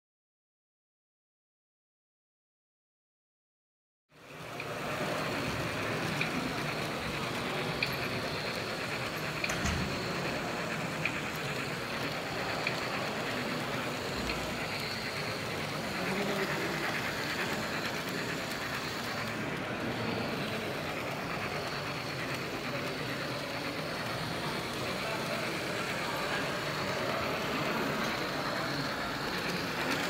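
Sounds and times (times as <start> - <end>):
hum of busy hall: 4.1 - 30.0
model trains running on track: 4.1 - 30.0.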